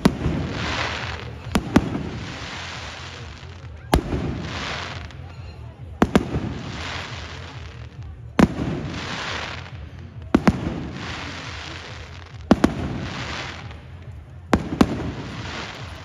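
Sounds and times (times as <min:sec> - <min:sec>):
firework bangs: 0:00.0 - 0:16.0
firework hiss: 0:00.0 - 0:16.0.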